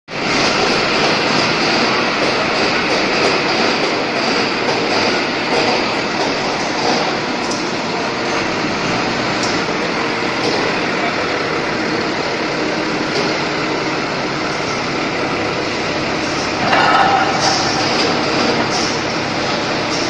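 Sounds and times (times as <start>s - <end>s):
forklift running: 0.1s - 20.0s.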